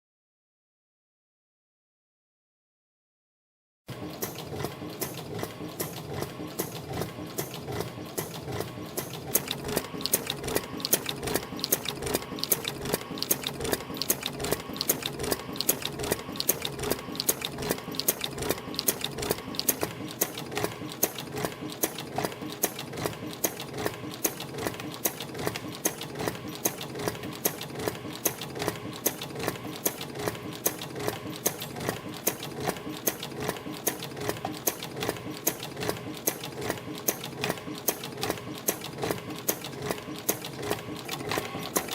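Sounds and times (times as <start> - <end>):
rapid machine clicking: 3.9 - 41.9.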